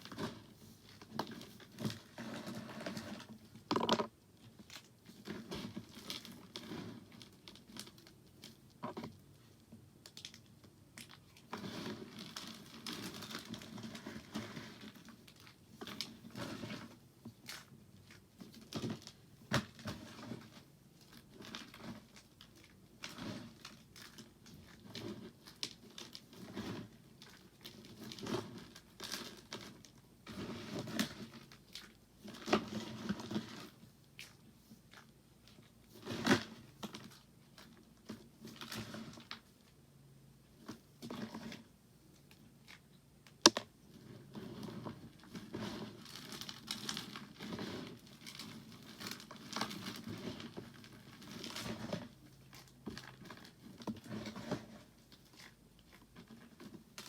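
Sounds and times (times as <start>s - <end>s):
soap crunching and crackling: 0.0s - 39.8s, 40.6s - 57.0s.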